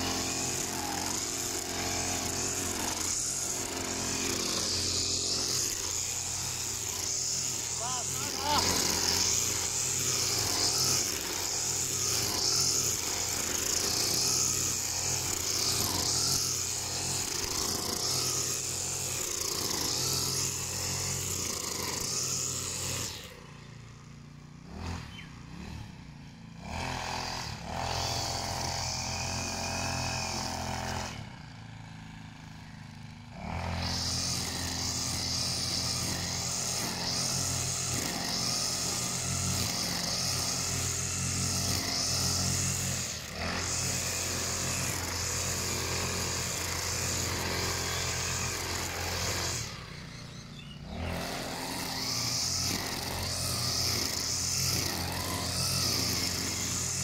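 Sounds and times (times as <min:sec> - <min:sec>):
brush cutter engine at high revs: 0:00.0 - 0:57.0.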